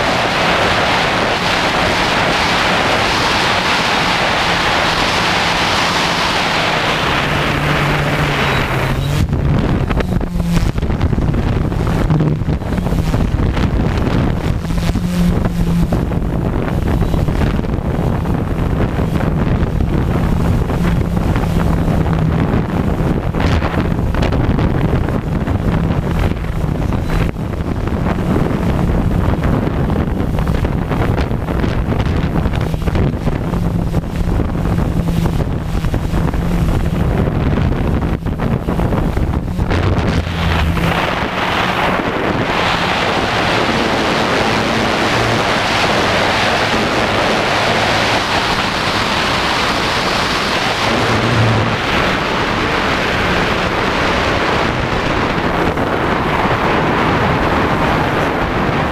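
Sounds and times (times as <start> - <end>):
drone propellers droning: 0.0 - 58.9
wind buffeting microphone: 0.0 - 58.9.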